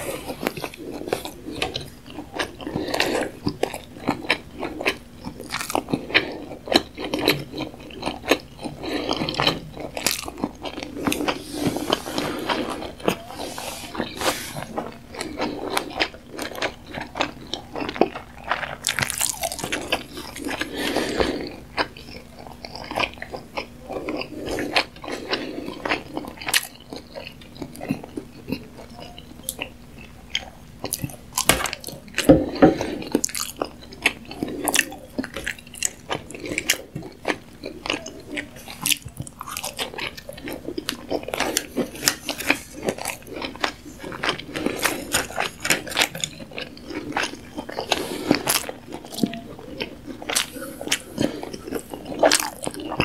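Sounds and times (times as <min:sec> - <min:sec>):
wet sticky chewing: 0:00.0 - 0:53.0.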